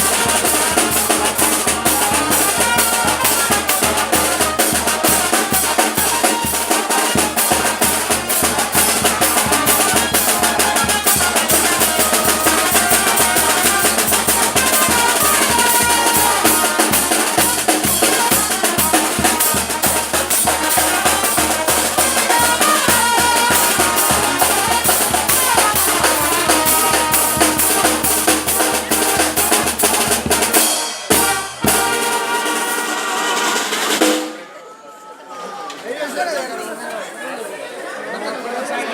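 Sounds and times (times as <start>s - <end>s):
live band with drums and brass: 0.0s - 34.8s.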